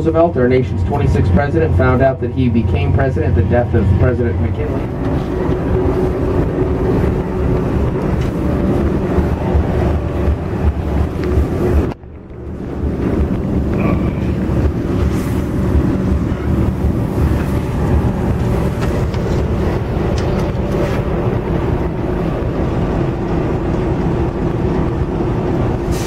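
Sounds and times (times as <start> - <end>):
locomotive engine idling: 0.0 - 26.0.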